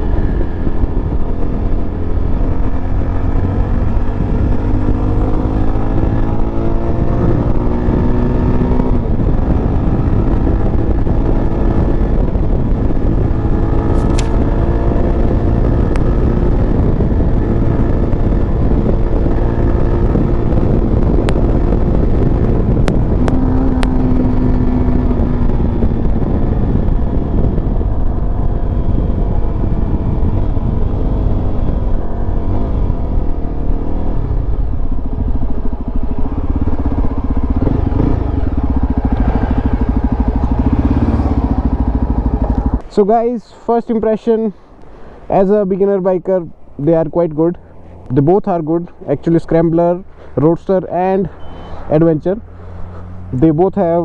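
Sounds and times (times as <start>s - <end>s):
motorcycle engine running: 0.0s - 43.1s, 48.8s - 54.0s
wind rush: 0.0s - 54.0s.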